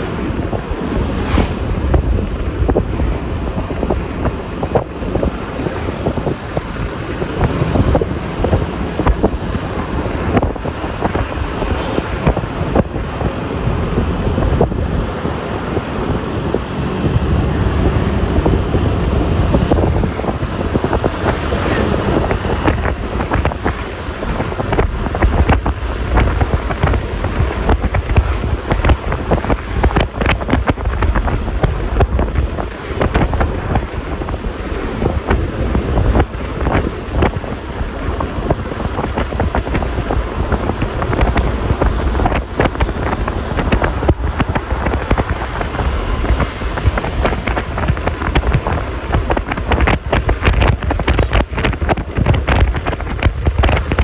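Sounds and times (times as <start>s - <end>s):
road noise rumble: 0.0s - 54.0s
wind buffeting microphone: 0.0s - 54.0s.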